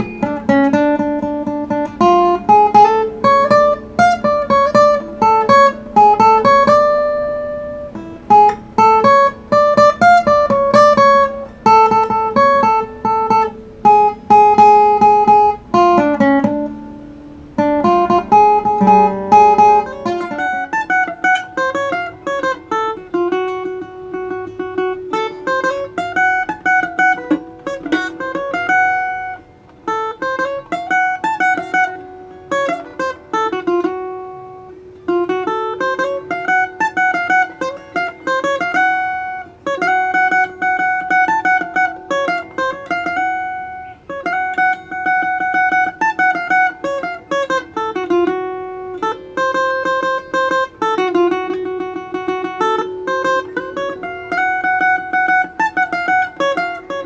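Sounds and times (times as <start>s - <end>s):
plucked string instrument melody: 0.0s - 57.0s.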